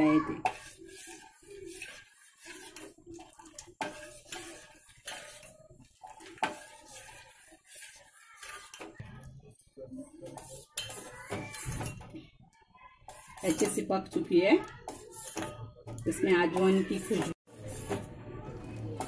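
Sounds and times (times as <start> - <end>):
ladle scraping a steel pot: 0.0 - 12.2, 13.0 - 19.0.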